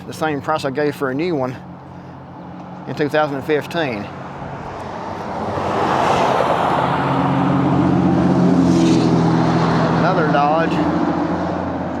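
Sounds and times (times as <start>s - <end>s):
engine hum: 0.0s - 12.0s
traffic tyre noise: 0.0s - 12.0s.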